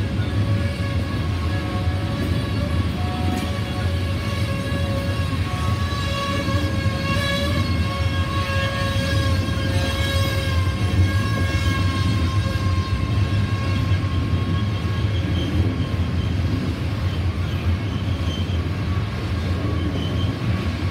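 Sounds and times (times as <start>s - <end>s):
train rumbling on track: 0.0s - 20.9s.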